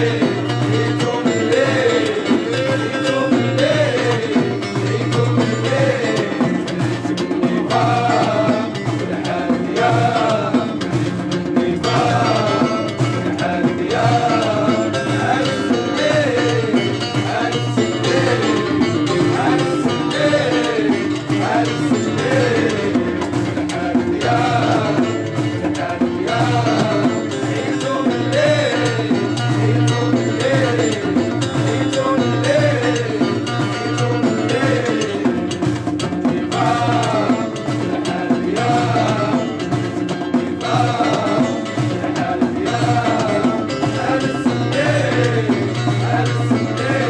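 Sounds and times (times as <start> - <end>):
arching melody: 0.0 - 47.0
percussion: 0.0 - 47.0.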